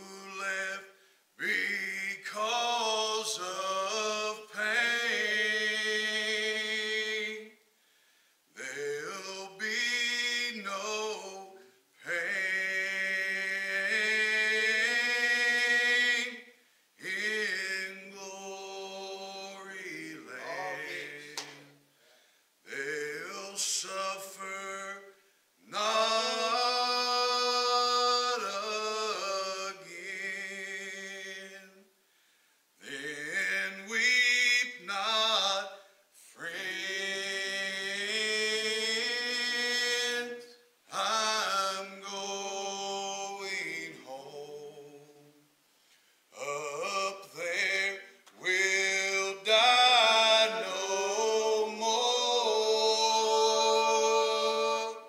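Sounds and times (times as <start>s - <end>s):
men singing a cappella hymn: 0.0s - 7.6s, 8.6s - 21.8s, 22.7s - 31.9s, 32.8s - 45.4s, 46.3s - 55.0s.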